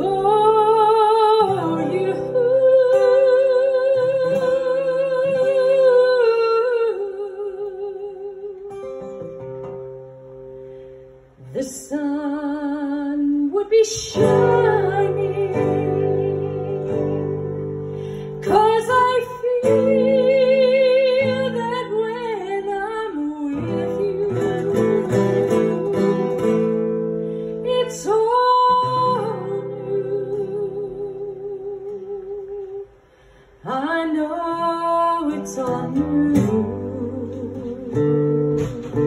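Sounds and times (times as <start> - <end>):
woman singing with vibrato: 0.0 - 9.1, 11.4 - 26.7, 27.5 - 39.0
acoustic guitar: 0.0 - 39.0.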